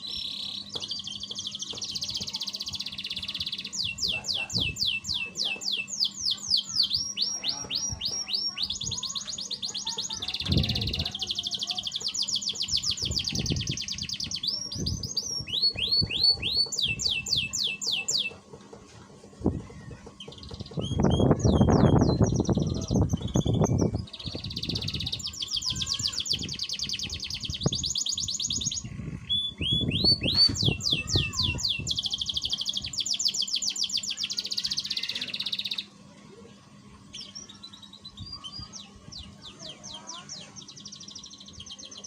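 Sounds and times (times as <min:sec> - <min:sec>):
canary trilling song: 0:00.0 - 0:18.4, 0:19.6 - 0:36.0, 0:37.0 - 0:42.0.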